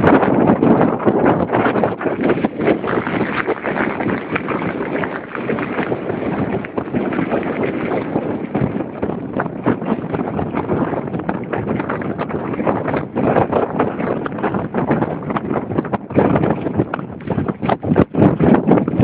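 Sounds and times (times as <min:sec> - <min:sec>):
storm wind buffeting microphone: 0:00.0 - 0:19.0
rain on beach: 0:02.0 - 0:17.4.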